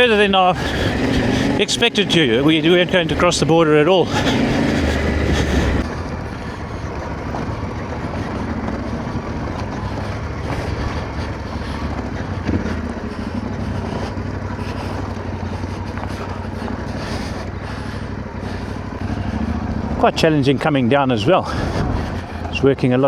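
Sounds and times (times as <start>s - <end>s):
bike rattling over stones: 0.0s - 20.8s
motorcycle engine running: 0.0s - 23.0s.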